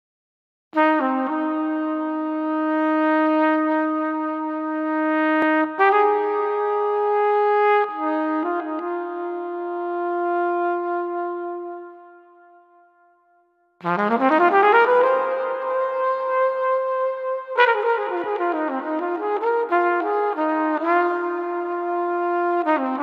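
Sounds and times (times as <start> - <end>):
brass instrument slow melody: 0.8 - 23.0.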